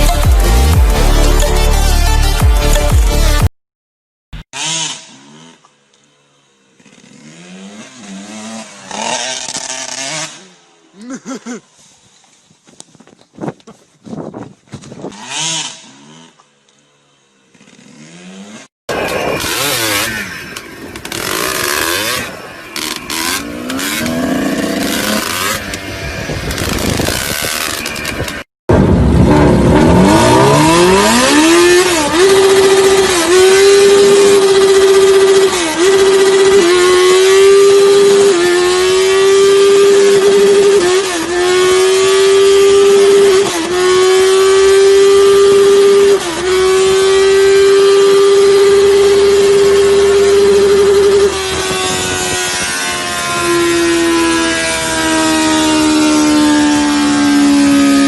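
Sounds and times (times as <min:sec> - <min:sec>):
motorcycle engines revving: 0:04.4 - 0:12.4, 0:13.0 - 0:58.0.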